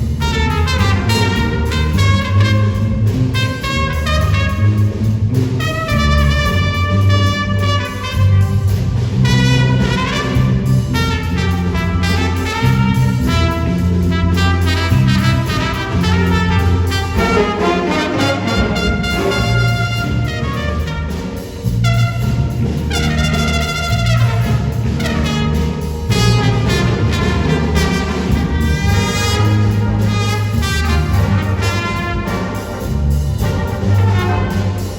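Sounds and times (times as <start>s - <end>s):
bass line: 0.0s - 34.9s
jazz brass section: 0.0s - 34.9s.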